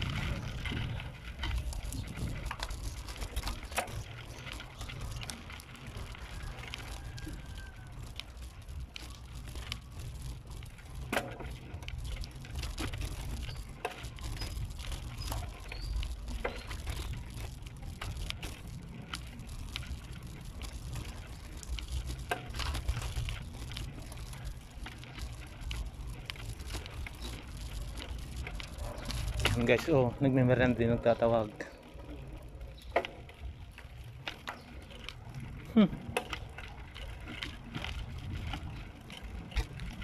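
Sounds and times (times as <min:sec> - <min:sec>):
wind rumble on microphone: 0:00.0 - 0:31.1, 0:37.3 - 0:40.0.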